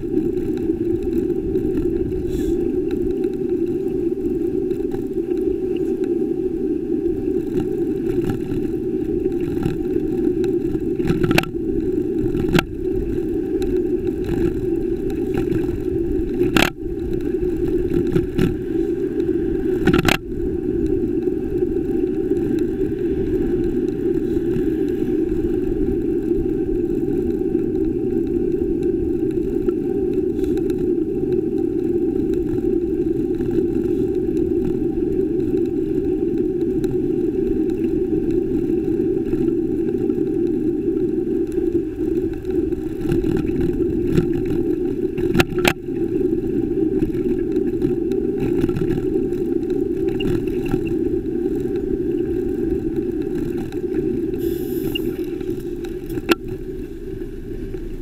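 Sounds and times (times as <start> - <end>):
wind and road noise rumble: 0.0 - 58.0.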